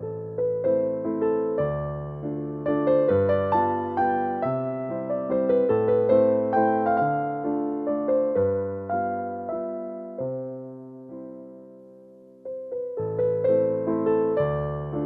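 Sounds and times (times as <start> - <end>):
soft piano melody: 0.0 - 15.0.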